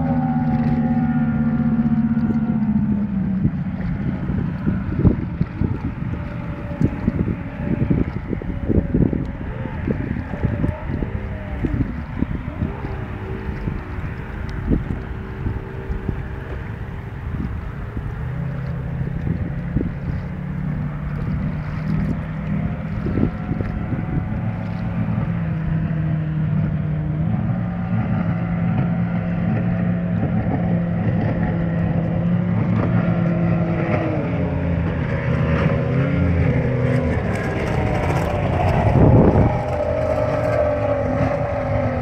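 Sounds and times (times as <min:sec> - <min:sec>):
motorboat engine passing: 0:00.0 - 0:42.0.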